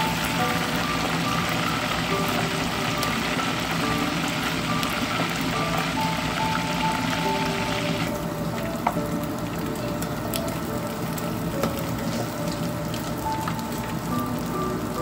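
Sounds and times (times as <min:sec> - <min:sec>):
fish sizzling in hot oil: 0:00.0 - 0:15.0
soft background music: 0:00.0 - 0:15.0.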